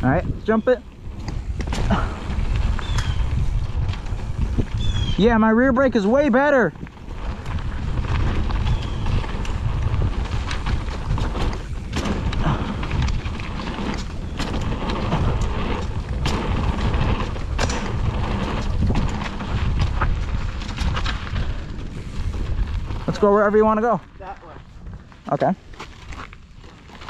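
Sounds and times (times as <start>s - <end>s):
bike clicks and rattles: 0.0s - 27.0s
bike rolling on dirt trail: 0.0s - 27.0s
wind rumbling on microphone: 0.0s - 27.0s.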